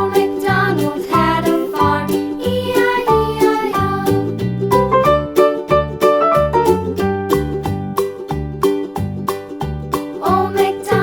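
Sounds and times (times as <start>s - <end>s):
upbeat plucked string music: 0.0s - 11.0s.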